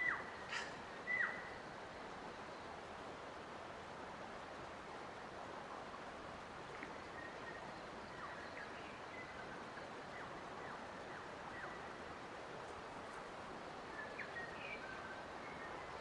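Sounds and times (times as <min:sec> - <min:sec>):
rushing background hiss: 0:00.0 - 0:16.0.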